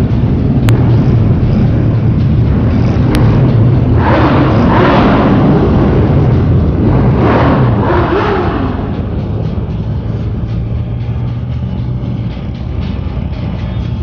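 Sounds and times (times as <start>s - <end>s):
motorcycle engine drone: 0.0s - 14.0s
rush of wind or traffic: 0.0s - 14.0s.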